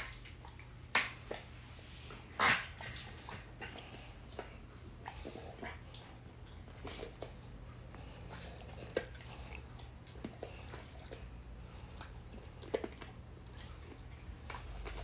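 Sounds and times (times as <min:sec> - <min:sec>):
dog chewing: 0:00.0 - 0:15.0.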